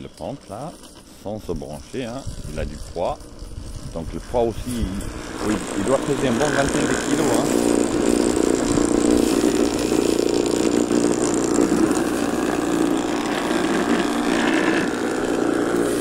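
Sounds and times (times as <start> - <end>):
electric mower motor humming: 0.0 - 16.0.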